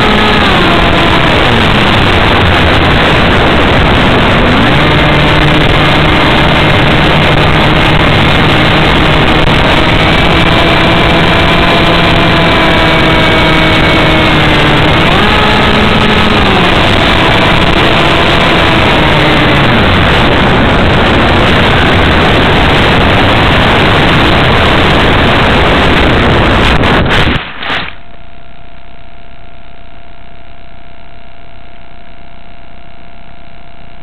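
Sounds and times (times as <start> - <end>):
model aircraft motor tone: 0.0 - 27.0, 27.9 - 34.0
steady hum with thin whine: 0.0 - 34.0.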